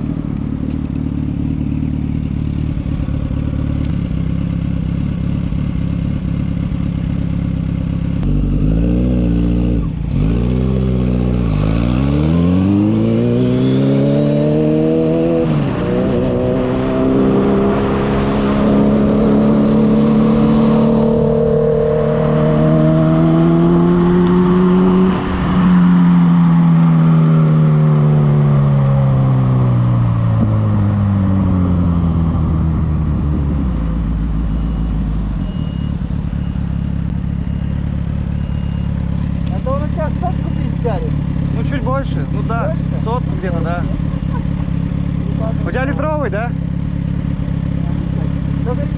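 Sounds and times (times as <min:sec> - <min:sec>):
motorcycle engine accelerating: 0:00.0 - 0:48.9
wind and road noise: 0:00.0 - 0:48.9.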